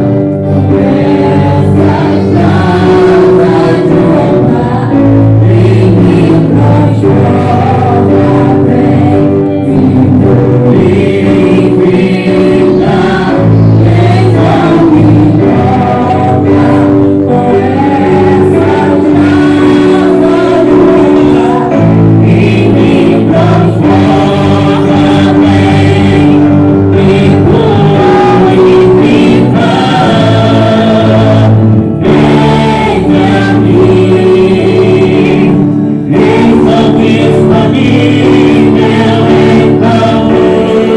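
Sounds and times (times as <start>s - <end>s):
choir singing praise song: 0.0s - 40.9s
musical accompaniment: 0.0s - 40.9s.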